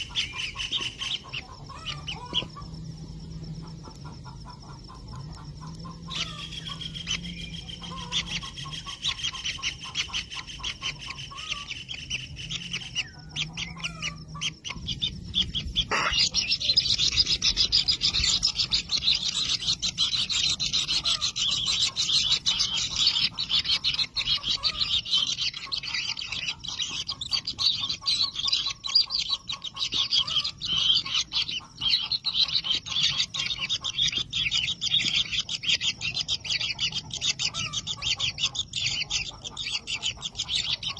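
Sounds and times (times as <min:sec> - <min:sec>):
bird nestlings chattering: 0:00.0 - 0:02.9, 0:03.8 - 0:40.9.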